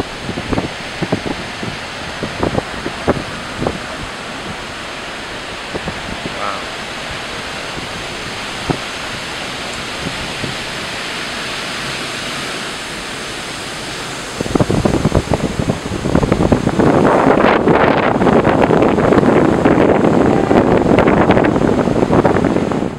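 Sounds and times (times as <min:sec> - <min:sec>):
rushing wind and water: 0:00.0 - 0:22.9
wind gusts buffeting microphone: 0:00.0 - 0:22.9.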